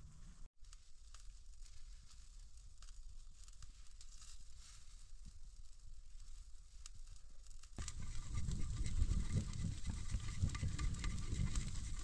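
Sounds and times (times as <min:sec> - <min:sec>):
wood fire crackling: 0:00.6 - 0:12.0.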